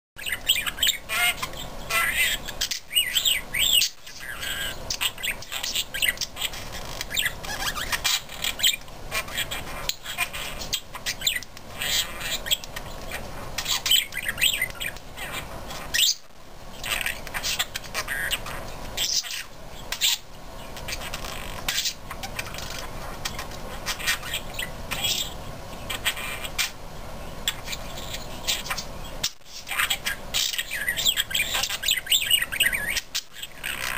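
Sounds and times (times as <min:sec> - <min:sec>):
budgerigars chattering and squawking: 0:00.2 - 0:33.9.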